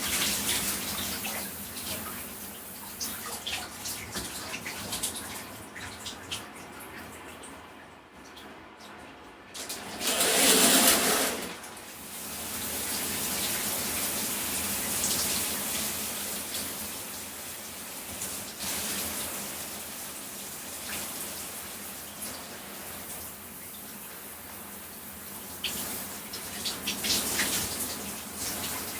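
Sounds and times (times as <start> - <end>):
shower spray on body: 0.0 - 5.5, 10.0 - 28.9.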